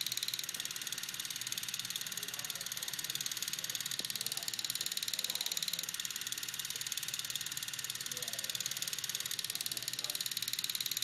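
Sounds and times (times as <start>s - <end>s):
film camera sprocket clatter: 0.0s - 11.0s.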